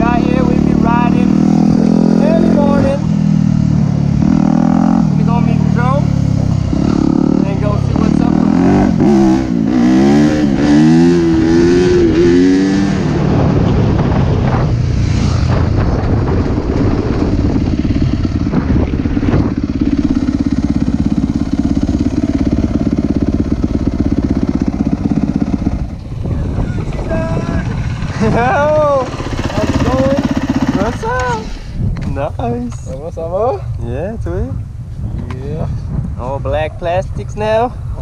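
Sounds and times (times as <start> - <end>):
dirt bike engine revving: 0.0 - 31.7.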